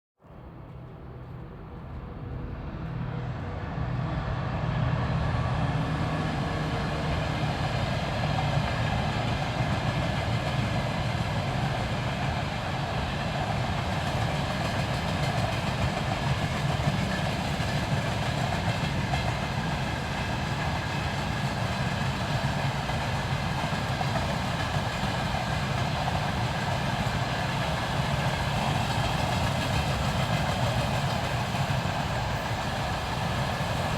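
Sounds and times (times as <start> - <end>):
diesel locomotive engine: 0.2 - 33.9
train rolling: 0.3 - 33.9.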